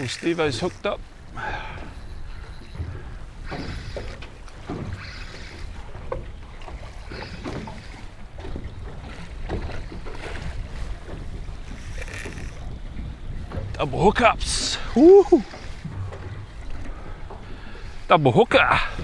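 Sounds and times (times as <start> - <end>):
water slapping boat hull: 0.0 - 19.0
wind buffeting microphone: 0.0 - 19.0.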